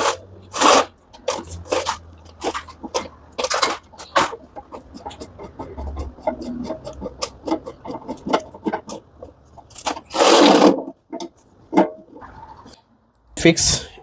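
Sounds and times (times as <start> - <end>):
harsh metal sound: 0.0 - 12.3.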